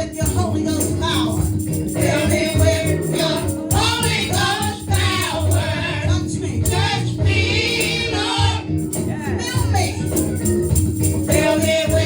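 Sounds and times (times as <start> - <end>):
group singing gospel: 0.0 - 12.0
low instrumental accompaniment: 0.1 - 12.0.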